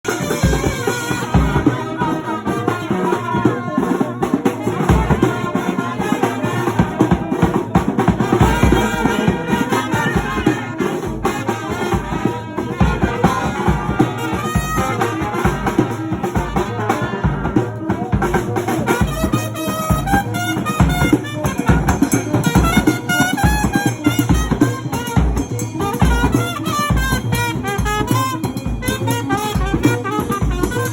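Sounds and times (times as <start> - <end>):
drum kit beat: 0.0 - 30.9
trumpets playing: 0.0 - 30.9.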